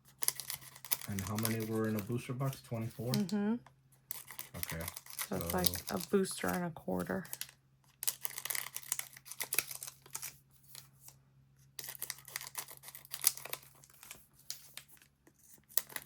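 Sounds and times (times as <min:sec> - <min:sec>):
plastic wrapper crackling and tearing: 0:00.1 - 0:03.3, 0:04.1 - 0:10.8, 0:11.7 - 0:16.0.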